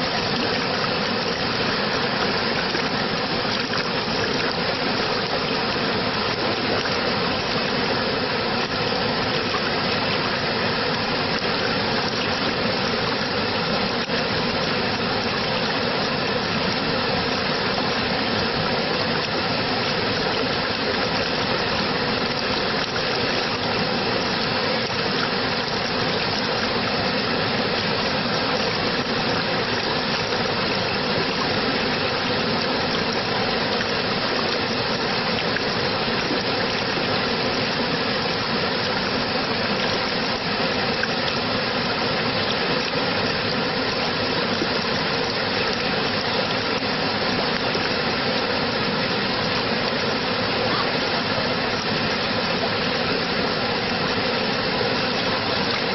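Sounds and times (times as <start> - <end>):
water flowing: 0.0 - 55.9.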